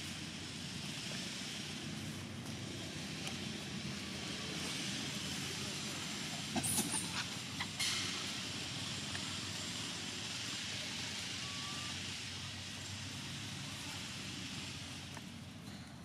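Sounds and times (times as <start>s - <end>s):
high hiss: 0.0s - 16.0s
vehicle engine rumbling: 0.0s - 16.0s.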